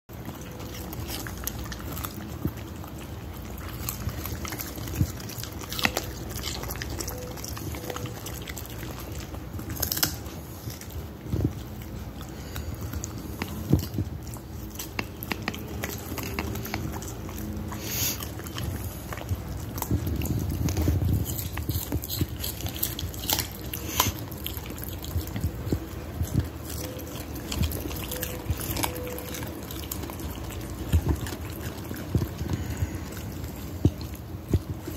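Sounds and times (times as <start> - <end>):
dog crunching carrot: 0.1 - 34.9.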